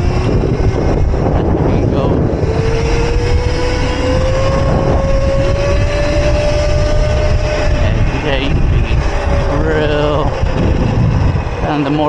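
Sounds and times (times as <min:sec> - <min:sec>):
electric motor whining: 0:00.0 - 0:12.0
wind rumble on microphone: 0:00.0 - 0:12.0.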